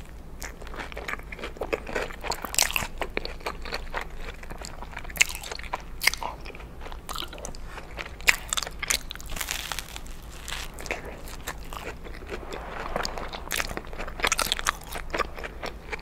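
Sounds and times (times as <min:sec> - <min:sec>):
chewing crunching: 0:00.4 - 0:16.0.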